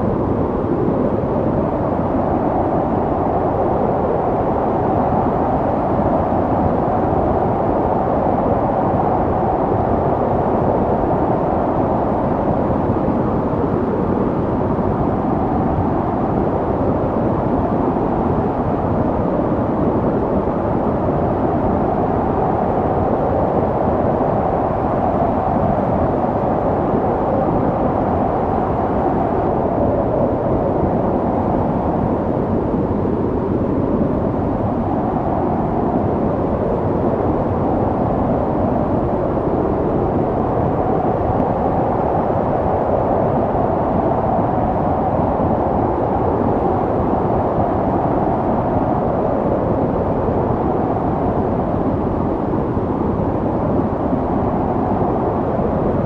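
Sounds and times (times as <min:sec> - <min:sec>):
snowstorm wind rushing: 0:00.0 - 0:56.0.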